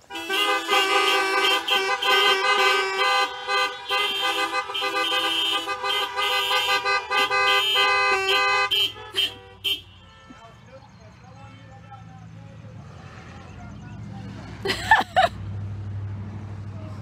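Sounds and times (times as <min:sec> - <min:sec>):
car horns honking: 0:00.0 - 0:14.1.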